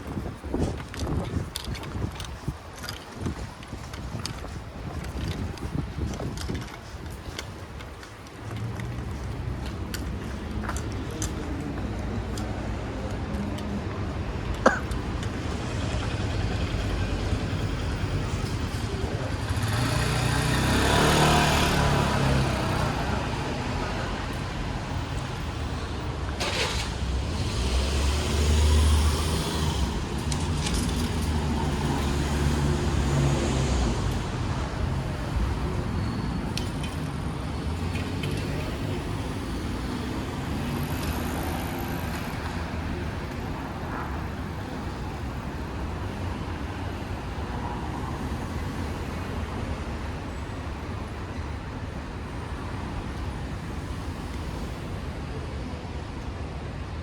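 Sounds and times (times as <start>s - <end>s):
steady traffic noise: 0.0s - 57.0s
vehicle rumble: 0.0s - 57.0s.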